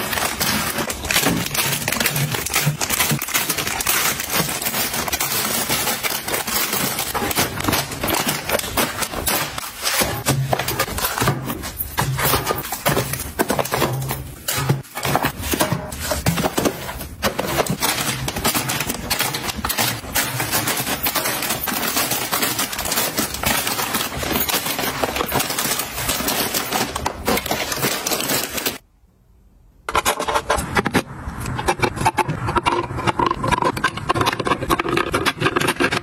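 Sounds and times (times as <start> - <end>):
plastic wrappers crinkling: 0.0 - 28.8.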